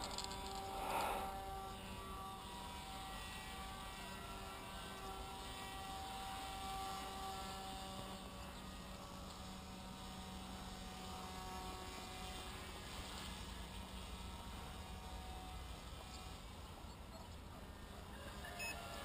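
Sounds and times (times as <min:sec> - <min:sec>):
model propeller droning: 0:00.0 - 0:19.0.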